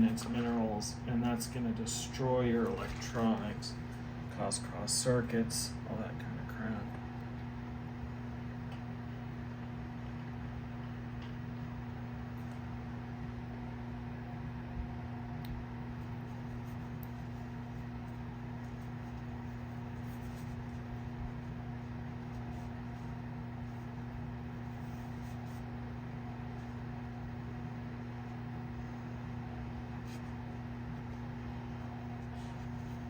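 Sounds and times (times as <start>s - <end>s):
electrical hum: 0.0s - 33.0s
fan whirr: 0.0s - 33.0s.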